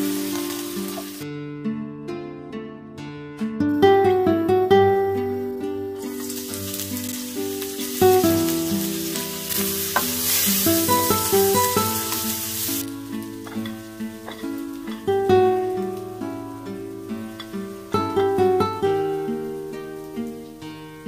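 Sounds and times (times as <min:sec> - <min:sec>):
onions sizzling in oil: 0:00.0 - 0:01.2, 0:04.8 - 0:21.0
guitar music: 0:00.0 - 0:21.0.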